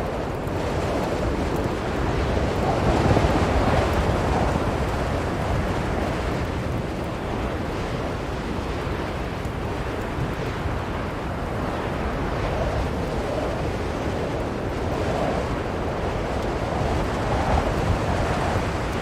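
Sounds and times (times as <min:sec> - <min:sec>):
strong blizzard wind: 0:00.0 - 0:19.0.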